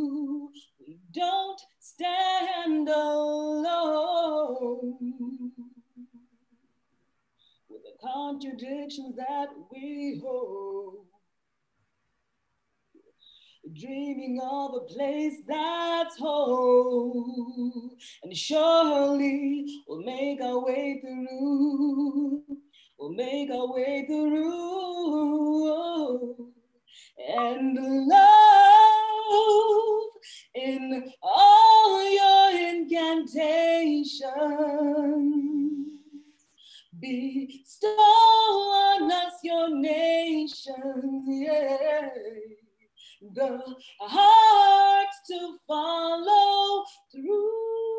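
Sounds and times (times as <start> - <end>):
woman singing unaccompanied: 0.0 - 5.9, 7.7 - 11.1, 13.7 - 47.9.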